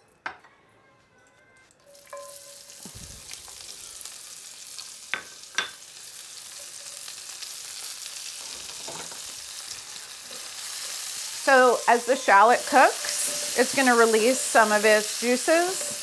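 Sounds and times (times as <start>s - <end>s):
shallots sizzling in oil: 1.8s - 16.0s.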